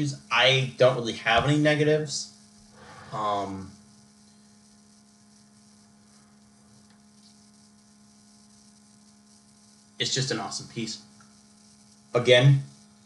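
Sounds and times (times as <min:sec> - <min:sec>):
faint hiss: 0:00.0 - 0:13.0
low electrical hum: 0:00.0 - 0:13.0.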